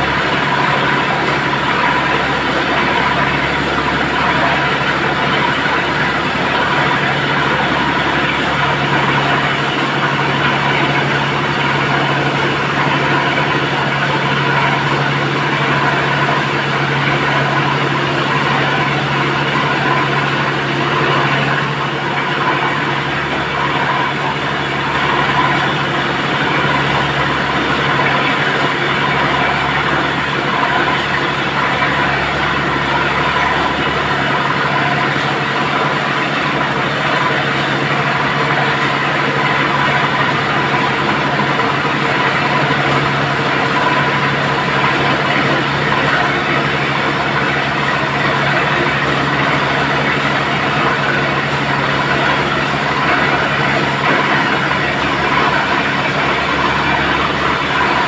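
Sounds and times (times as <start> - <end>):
drilling rig diesel engine: 0.0 - 58.0.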